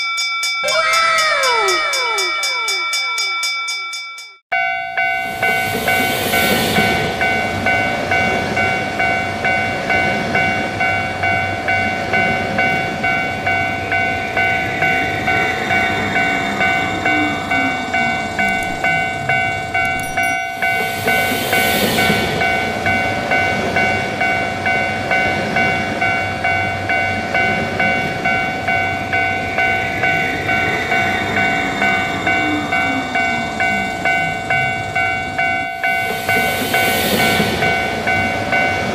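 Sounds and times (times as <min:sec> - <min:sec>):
level-crossing warning bell: 0:00.0 - 0:38.9
passing train rumble and clatter: 0:04.6 - 0:38.9.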